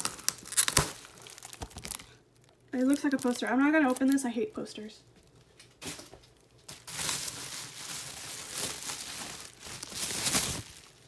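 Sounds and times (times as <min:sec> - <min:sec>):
bubble wrap crinkling: 0:00.0 - 0:04.3, 0:05.1 - 0:11.0.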